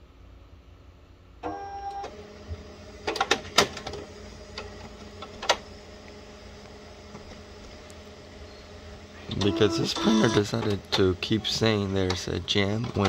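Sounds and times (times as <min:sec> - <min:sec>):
printer tone: 0:01.4 - 0:07.2, 0:08.2 - 0:13.0
printer mechanism humming: 0:01.4 - 0:13.0.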